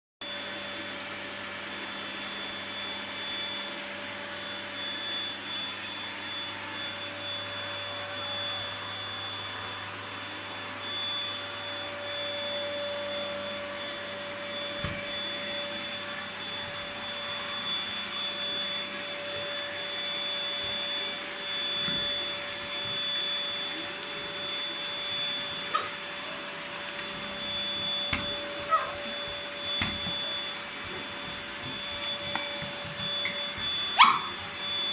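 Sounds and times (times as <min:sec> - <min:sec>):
vacuum cleaner running: 0:00.2 - 0:34.9.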